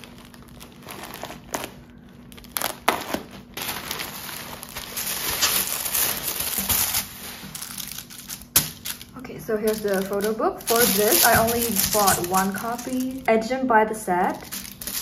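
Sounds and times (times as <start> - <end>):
plastic mailer bag crinkling: 0.0 - 13.5, 14.2 - 15.0.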